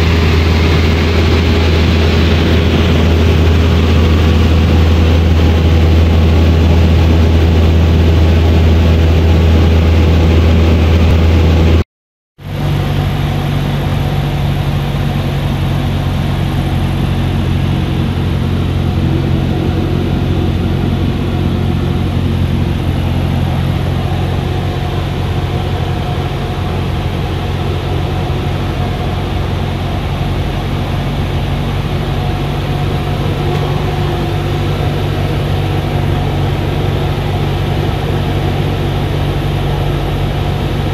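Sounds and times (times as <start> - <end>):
propeller plane engine droning: 0.0 - 11.8, 12.4 - 40.9.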